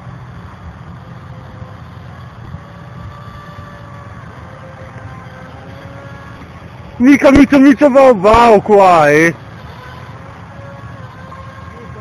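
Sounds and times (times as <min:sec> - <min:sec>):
distant model airplane motor: 0:00.0 - 0:12.0.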